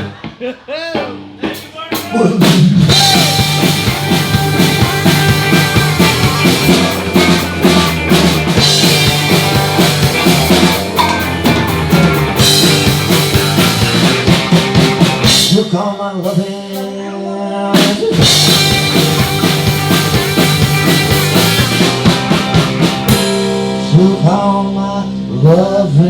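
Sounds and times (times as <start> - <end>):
loud drums: 0.0 - 17.0, 17.7 - 24.8
live rock band playing: 0.0 - 26.0.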